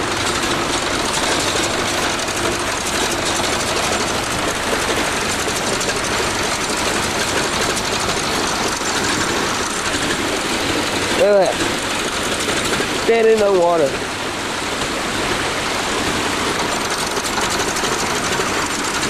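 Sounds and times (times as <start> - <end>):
bulldozer engine clattering: 0.0 - 19.0.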